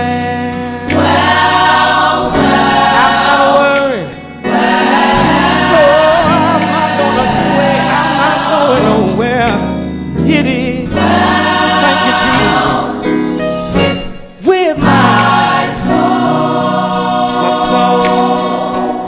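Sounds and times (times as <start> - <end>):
choir singing gospel: 0.0 - 19.0
sustained accompaniment: 0.9 - 19.0.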